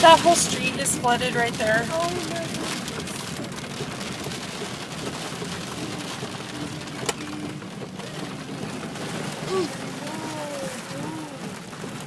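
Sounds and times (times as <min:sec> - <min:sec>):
rain hiss inside a car: 0:00.0 - 0:12.0.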